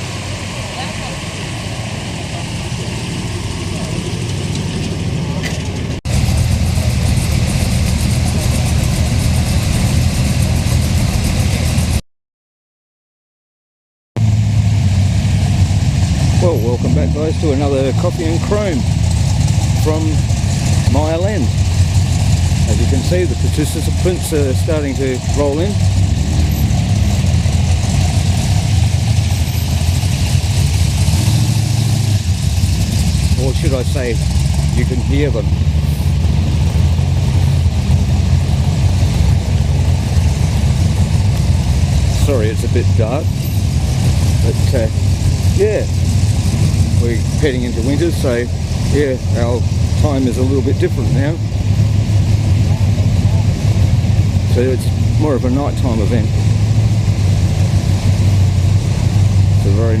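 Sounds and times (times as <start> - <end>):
car engine idling: 0.0 - 12.0, 14.2 - 60.0.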